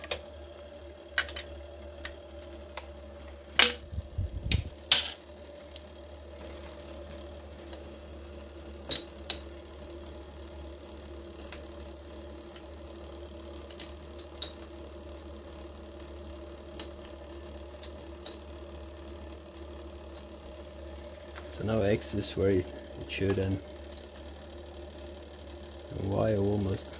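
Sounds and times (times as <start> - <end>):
milling machine motor humming: 0.0 - 26.9.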